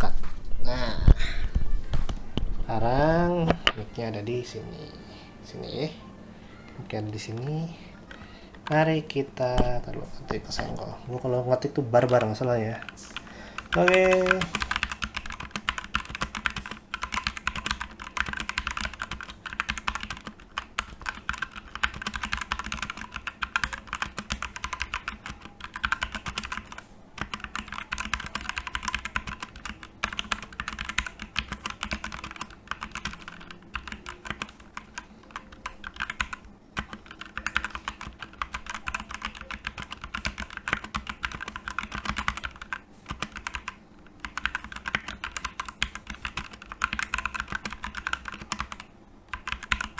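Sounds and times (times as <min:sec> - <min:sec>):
mechanical keyboard typing: 0:08.6 - 0:49.9.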